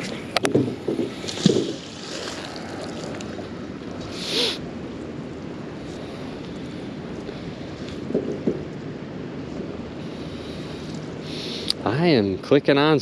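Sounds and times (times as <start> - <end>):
river water lapping at boat: 0.0 - 12.3
wind buffeting microphone: 0.0 - 12.4.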